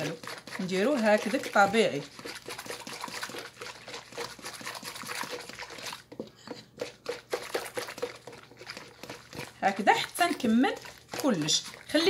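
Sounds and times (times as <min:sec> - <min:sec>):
whisk beating batter in metal bowl: 0:00.0 - 0:12.0.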